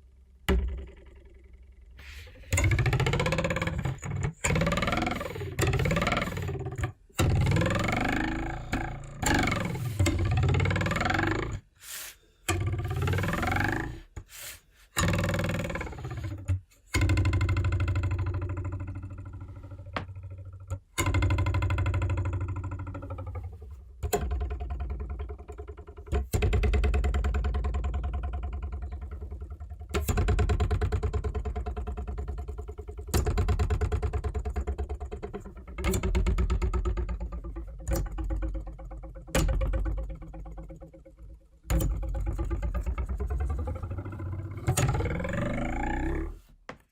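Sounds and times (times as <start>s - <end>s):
metal ruler twanging: 0.5s - 11.7s, 12.5s - 14.2s, 15.0s - 46.4s.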